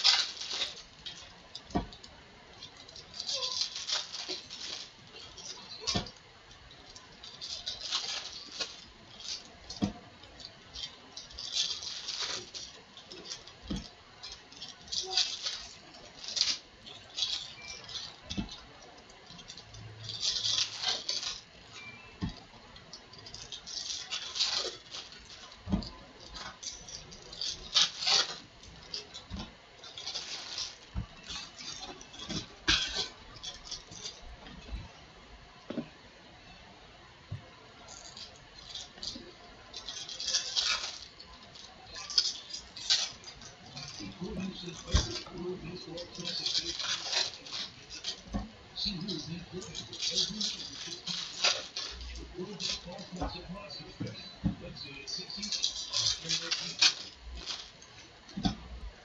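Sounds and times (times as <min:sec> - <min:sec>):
foil wrappers tearing: 0:00.0 - 0:34.3, 0:37.8 - 0:54.2, 0:55.0 - 0:58.3.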